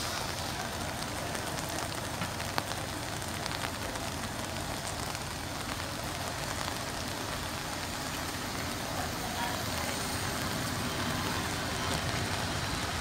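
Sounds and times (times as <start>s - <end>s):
diesel railcar running: 0.0s - 13.0s
rain hiss: 0.0s - 13.0s.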